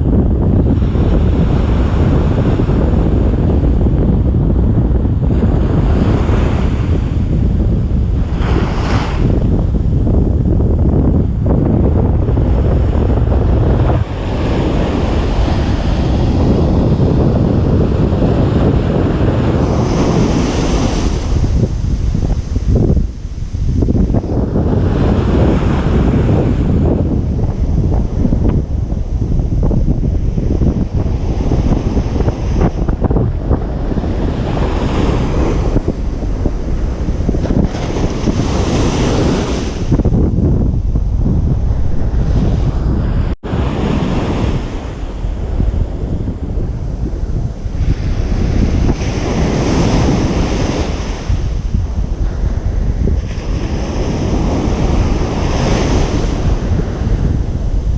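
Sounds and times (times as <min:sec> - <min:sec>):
deep rumble: 0:00.0 - 0:49.0
wind buffeting microphone: 0:00.0 - 0:57.9
ocean surf breaking: 0:05.2 - 0:10.4, 0:11.2 - 0:57.9.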